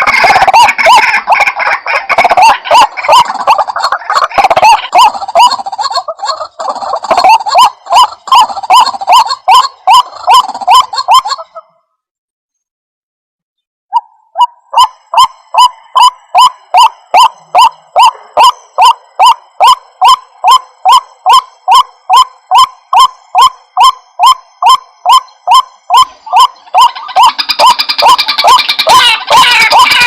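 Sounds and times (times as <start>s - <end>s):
harsh bird calls: 0.0s - 11.8s, 13.9s - 30.0s.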